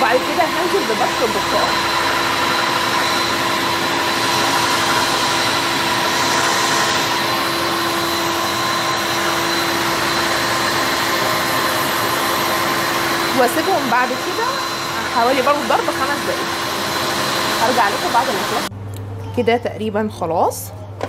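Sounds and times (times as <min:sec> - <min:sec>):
stand mixer motor humming: 0:00.0 - 0:18.7.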